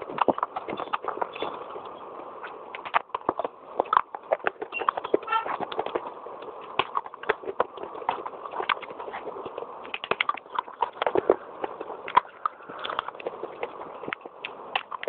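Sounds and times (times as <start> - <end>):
baked clay crunching: 0.0 - 15.0.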